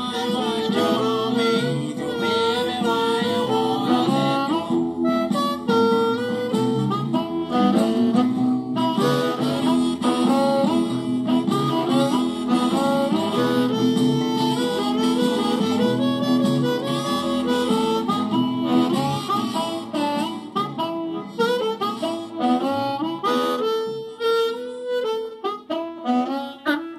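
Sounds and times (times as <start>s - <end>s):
distorted blues harmonica: 0.0s - 26.9s.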